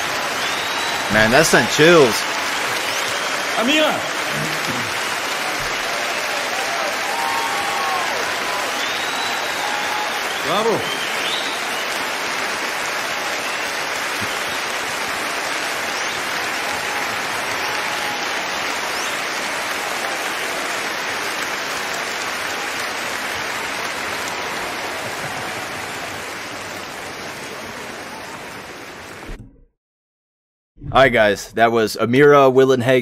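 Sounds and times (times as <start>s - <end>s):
audience applauding: 0.0s - 29.3s.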